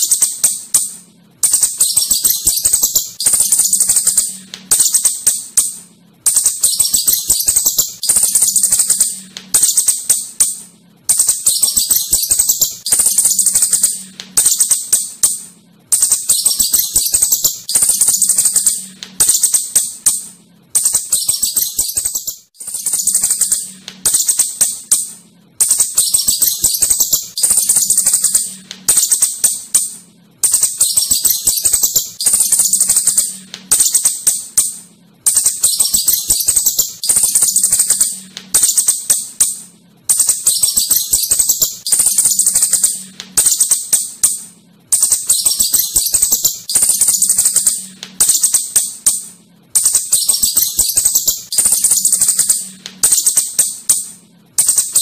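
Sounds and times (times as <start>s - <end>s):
shrew chittering: 0.0s - 55.0s.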